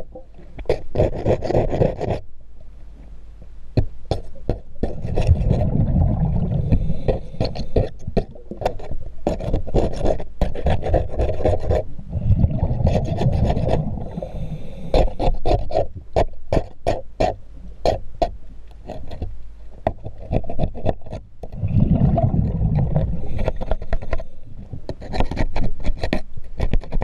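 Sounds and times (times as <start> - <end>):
metal scraper rasping underwater: 0.0 - 2.3, 4.1 - 27.0.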